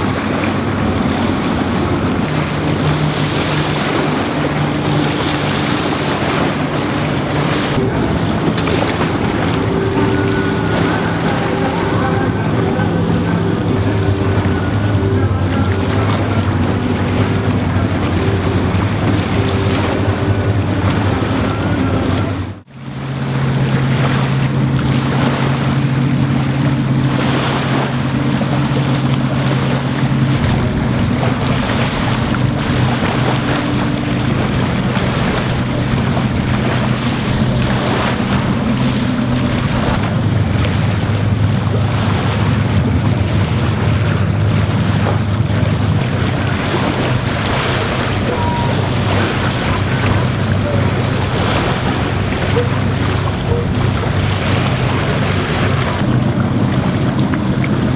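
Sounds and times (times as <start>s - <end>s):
low ship engine drone: 0.0s - 57.9s.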